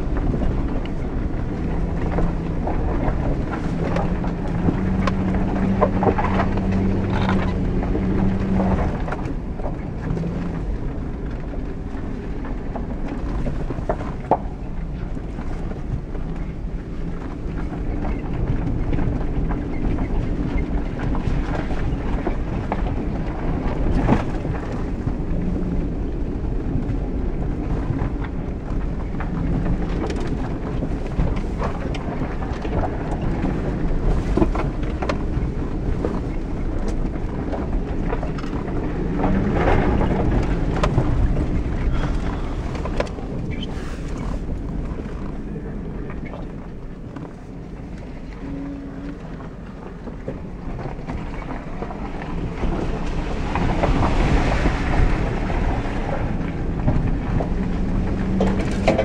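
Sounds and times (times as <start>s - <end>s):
engine and road rumble: 0.0s - 59.0s
suspension knocks and clunks: 0.0s - 59.0s.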